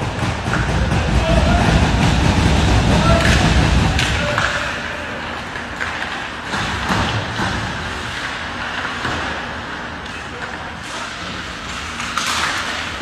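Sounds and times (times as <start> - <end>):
skates and sticks on ice: 0.0 - 13.0.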